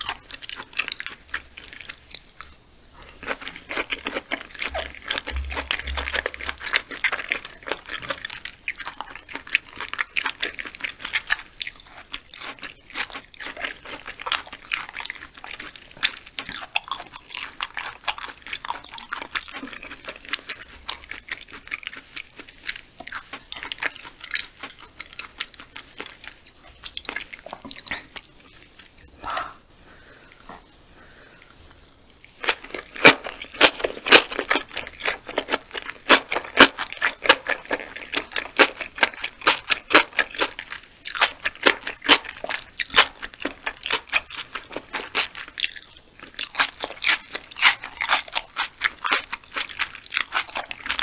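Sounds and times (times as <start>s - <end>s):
wet chewing with mouth smacks: 0.0s - 29.5s, 31.4s - 51.0s.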